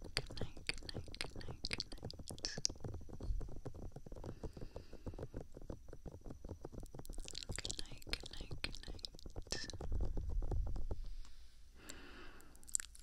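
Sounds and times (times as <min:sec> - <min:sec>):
fingertips tapping on microphone: 0:00.0 - 0:11.4.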